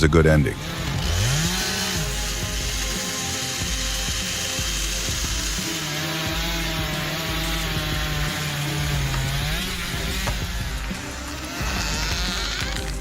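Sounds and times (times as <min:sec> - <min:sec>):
chainsaw running: 0:00.2 - 0:13.0.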